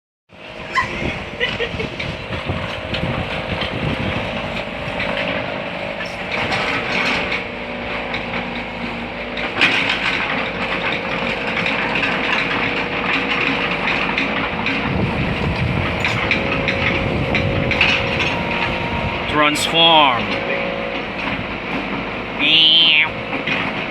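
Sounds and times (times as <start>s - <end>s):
backhoe engine whining: 0.3s - 23.9s
knocks and clanks: 0.8s - 23.9s.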